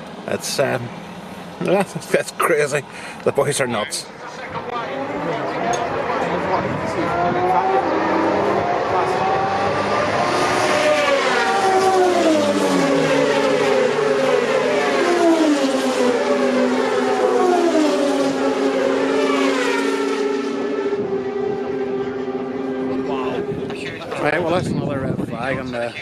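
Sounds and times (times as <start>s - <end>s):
racing motorcycles passing: 0.4s - 24.6s.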